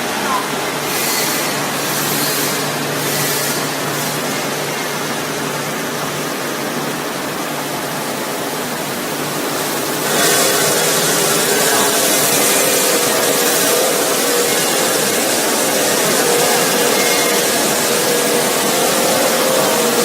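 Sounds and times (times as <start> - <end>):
machine hum: 0.0 - 20.0
water jets spraying: 0.0 - 20.0.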